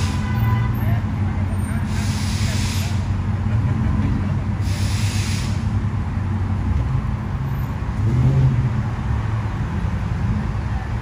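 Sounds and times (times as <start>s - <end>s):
pickup truck engines rumbling: 0.0s - 11.0s.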